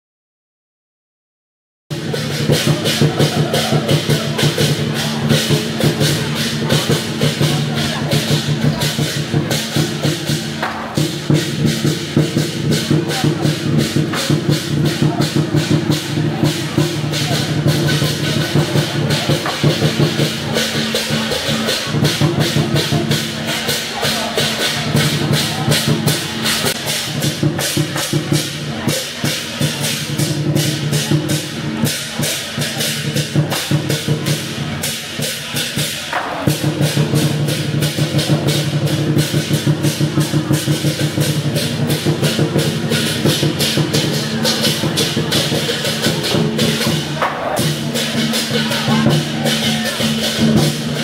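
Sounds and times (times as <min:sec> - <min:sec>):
fast percussion strokes: 0:01.9 - 0:51.0.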